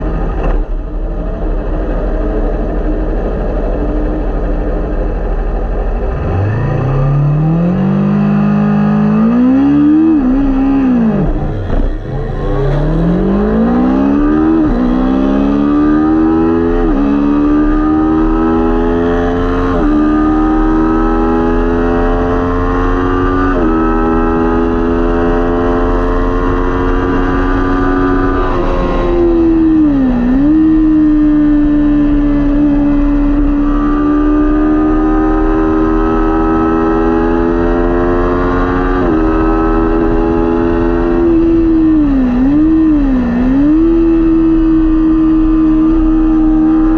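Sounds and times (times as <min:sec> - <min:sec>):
motorcycle engine revving at full throttle: 0:00.0 - 0:46.9
wind rumble: 0:00.0 - 0:46.9.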